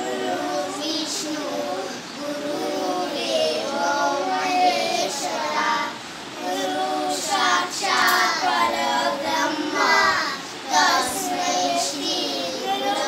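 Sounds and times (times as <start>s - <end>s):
boys singing in unison: 0.0s - 13.0s.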